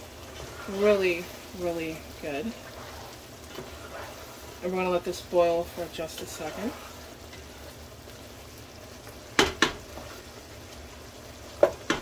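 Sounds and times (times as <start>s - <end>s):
rice boiling in a pot: 0.0s - 12.0s.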